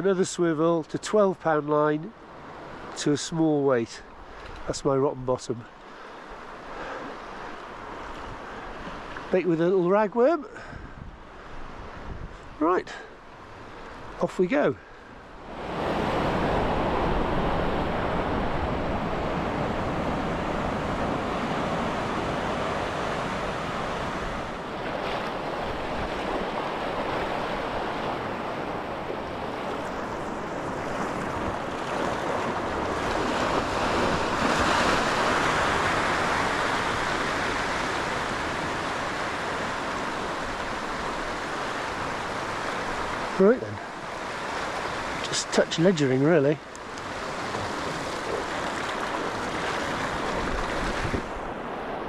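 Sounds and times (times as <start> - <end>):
surf washing over rocks: 0.0 - 52.0.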